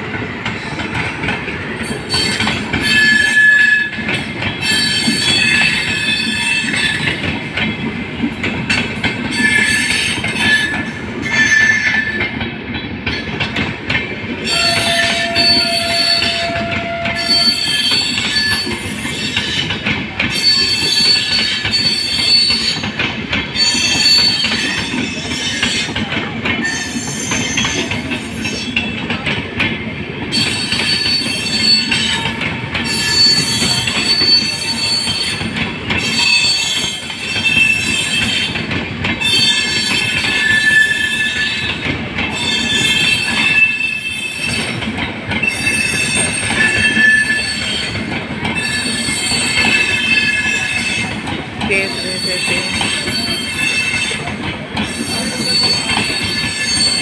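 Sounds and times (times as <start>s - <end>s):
rail-joint clicks: 0.0s - 57.0s
train rolling rumble: 0.0s - 57.0s
train wheels screeching on rails: 0.0s - 57.0s.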